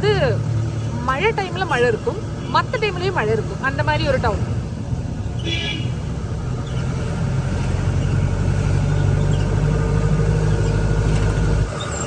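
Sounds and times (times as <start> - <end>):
car engine hum from inside: 0.0 - 12.0.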